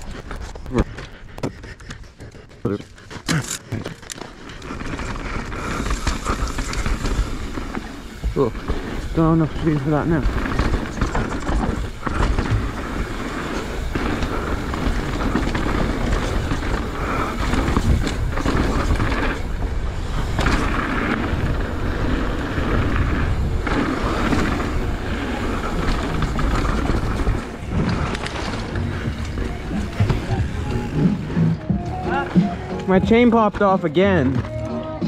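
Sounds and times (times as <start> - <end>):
bike rattling over bumps: 0.0 - 34.6
tyre and wind rush: 4.4 - 33.6.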